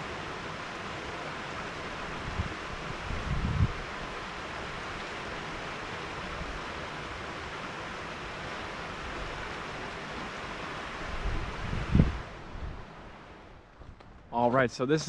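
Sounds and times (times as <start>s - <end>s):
river water rushing: 0.0s - 13.6s.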